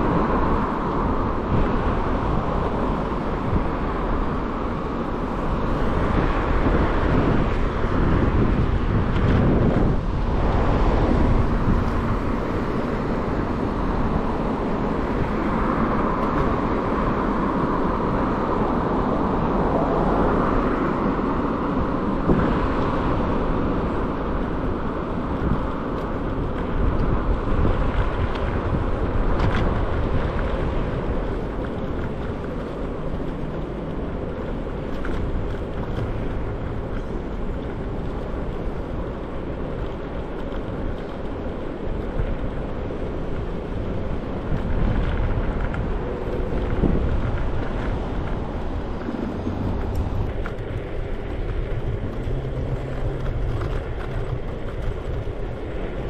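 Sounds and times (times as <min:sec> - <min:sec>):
road noise from traffic: 0:00.0 - 0:56.0
wind on microphone: 0:00.0 - 0:56.0.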